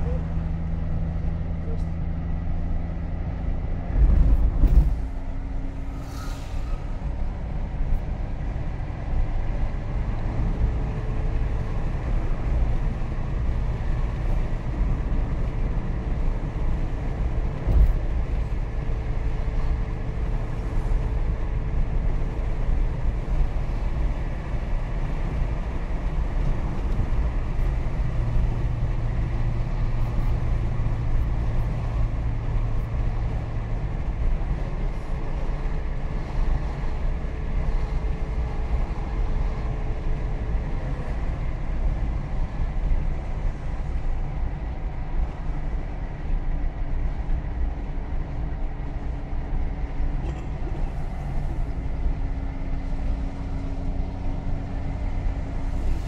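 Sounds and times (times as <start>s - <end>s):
car engine hum: 0.0s - 56.0s.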